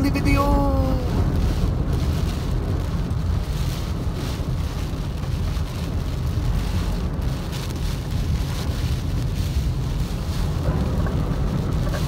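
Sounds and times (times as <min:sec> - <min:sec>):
car driving on wet road: 0:00.0 - 0:12.0
heavy rain hitting car roof: 0:00.0 - 0:12.0.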